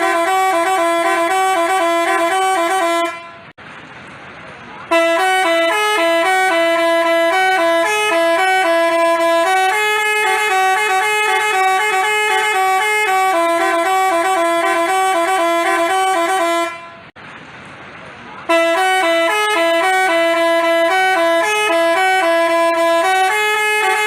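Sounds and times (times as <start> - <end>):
bus horn playing a tune: 0.0 - 3.6, 4.8 - 17.2, 18.4 - 24.0.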